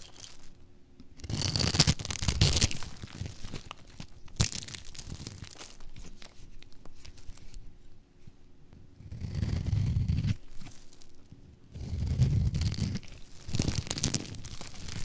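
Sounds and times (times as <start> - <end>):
dry soap crumbling: 0.0 - 0.6, 1.2 - 7.6, 9.2 - 15.0.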